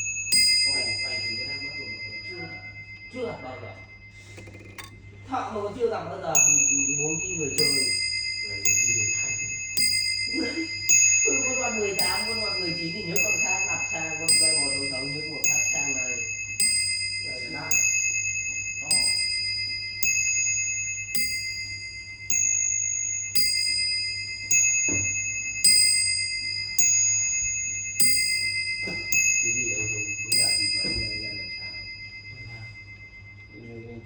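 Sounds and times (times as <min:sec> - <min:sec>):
metal chime struck: 0:00.0 - 0:34.0.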